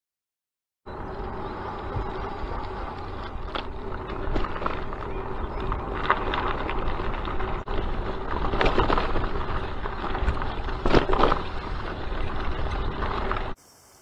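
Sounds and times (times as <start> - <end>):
bicycle tyres crunching on gravel: 0.9 - 13.6.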